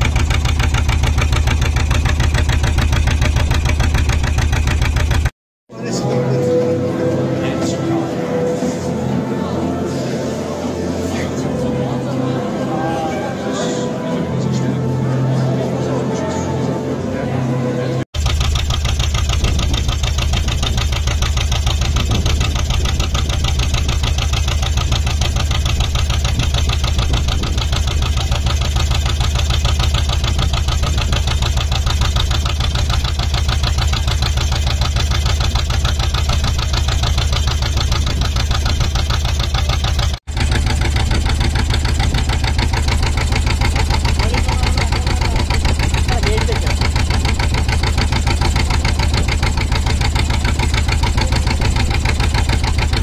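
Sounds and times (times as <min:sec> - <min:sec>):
engine running fast: 0:00.0 - 0:53.0.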